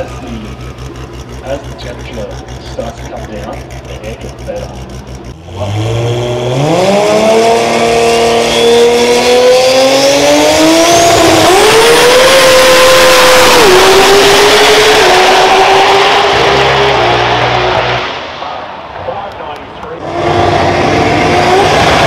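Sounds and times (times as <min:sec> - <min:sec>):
drag racing car accelerating: 0:00.0 - 0:22.0.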